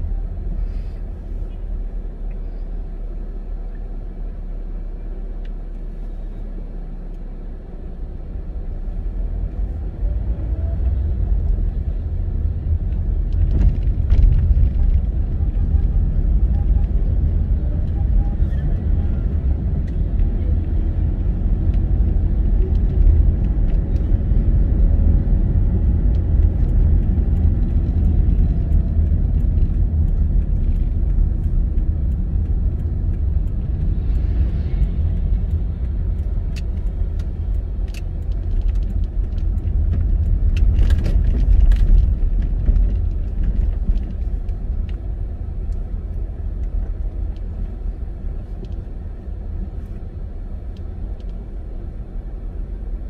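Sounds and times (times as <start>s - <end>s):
tyre and engine rumble: 0.0s - 53.0s.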